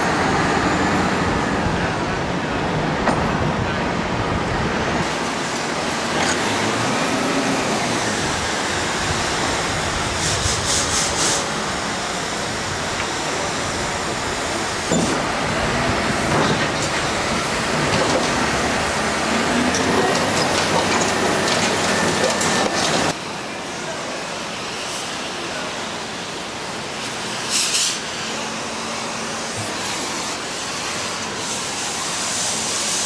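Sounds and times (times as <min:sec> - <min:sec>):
diesel engines of heavy machinery: 0:00.0 - 0:33.0.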